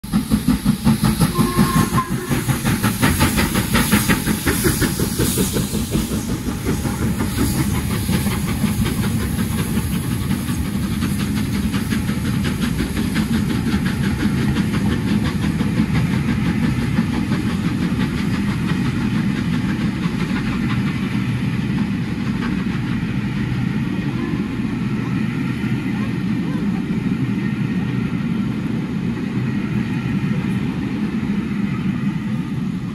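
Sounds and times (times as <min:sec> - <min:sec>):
steam locomotive exhaust pulsing: 0:00.0 - 0:32.9
train wheels clattering on rails: 0:00.0 - 0:32.9.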